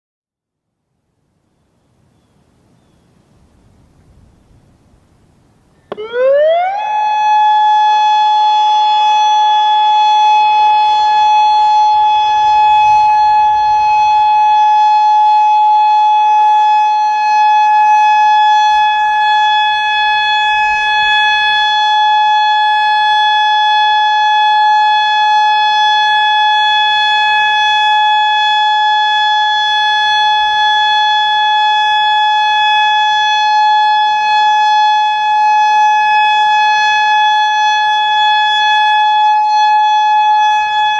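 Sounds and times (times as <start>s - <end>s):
warning siren steady tone: 5.8s - 40.9s.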